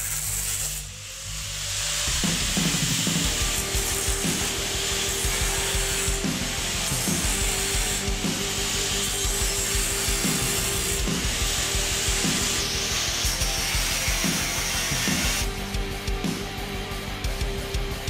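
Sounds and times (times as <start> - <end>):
angle grinder cutting steel: 0.0 - 15.5.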